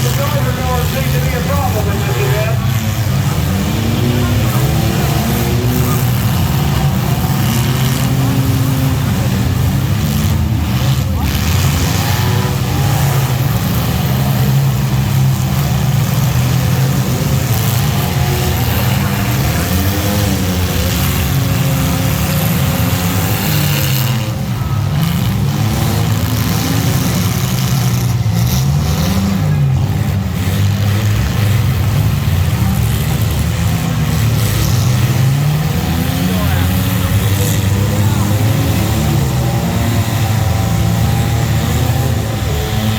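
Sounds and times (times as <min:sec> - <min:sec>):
race engines accelerating: 0:00.0 - 0:42.9.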